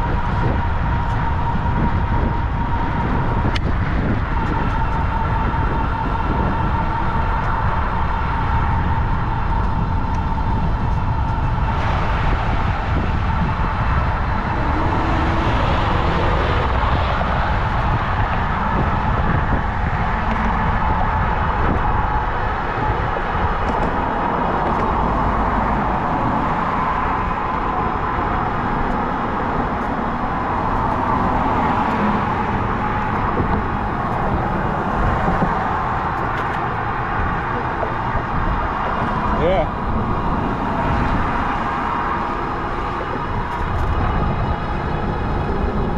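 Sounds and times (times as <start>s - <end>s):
road noise: 0.0s - 45.9s
wind buffeting microphone: 0.0s - 45.9s.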